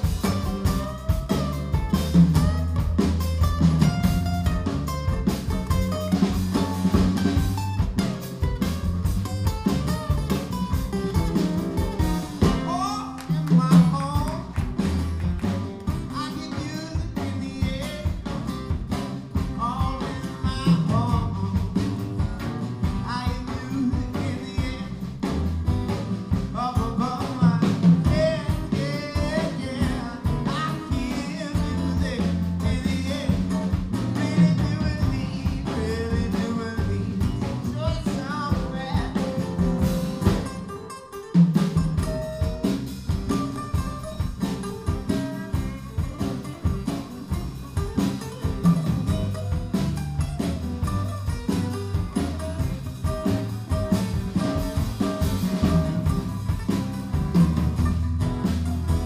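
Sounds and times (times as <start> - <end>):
acoustic guitars strummed: 0.0 - 59.0
drums: 0.0 - 59.0.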